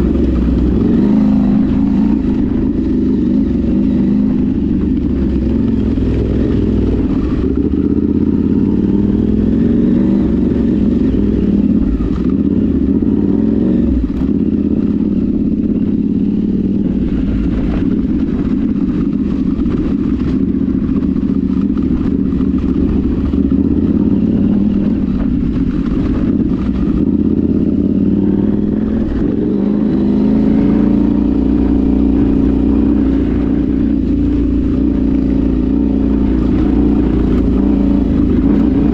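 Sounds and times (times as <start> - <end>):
off-road vehicle engine running: 0.0 - 38.9.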